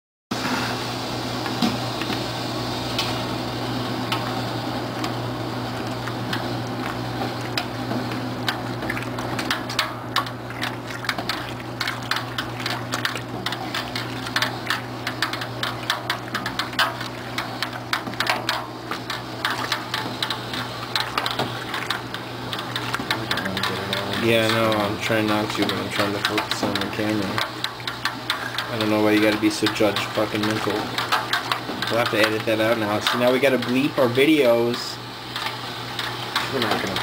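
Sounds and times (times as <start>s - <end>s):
steady low hum: 0.4s - 37.0s.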